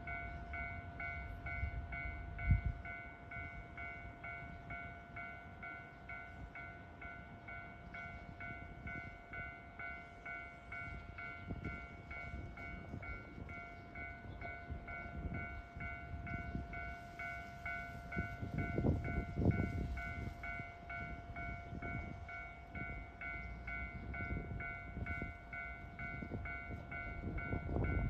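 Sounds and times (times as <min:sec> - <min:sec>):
level-crossing warning bell: 0:00.0 - 0:28.0.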